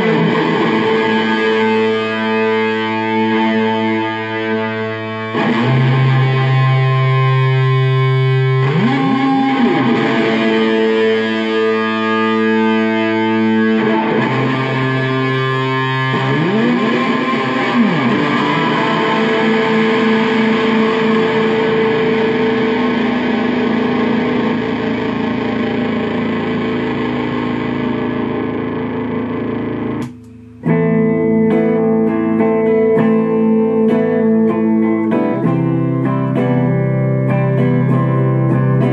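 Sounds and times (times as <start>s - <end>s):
distorted electric bass: 0.0s - 38.9s.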